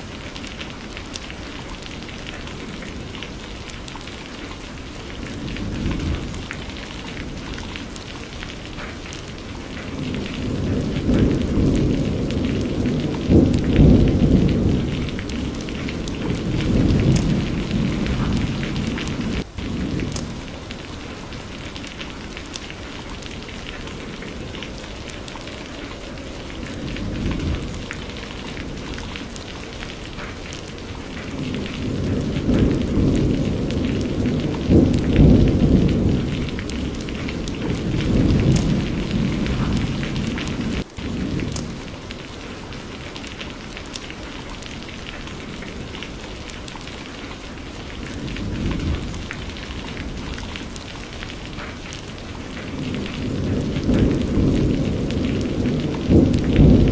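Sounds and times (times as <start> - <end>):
steady rain falling: 0.0 - 56.9
rolling thunder: 2.0 - 43.5, 47.8 - 56.9.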